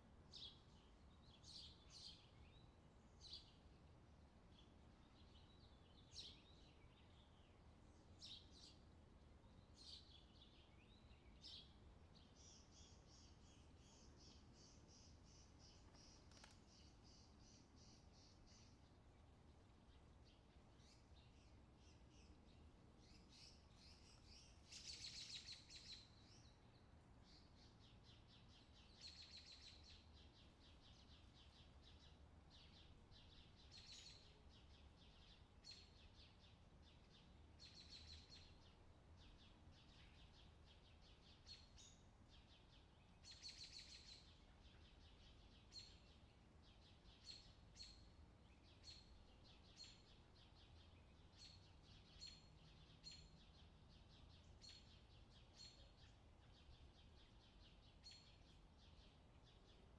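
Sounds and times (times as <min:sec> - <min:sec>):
faint songbirds chirping: 0:00.0 - 0:59.9.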